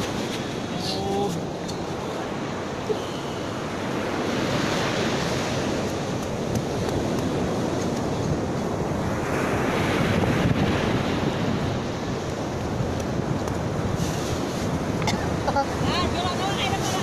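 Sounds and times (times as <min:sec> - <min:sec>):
ocean surf breaking on beach: 0:00.0 - 0:17.0
wind buffeting microphone: 0:00.0 - 0:17.0.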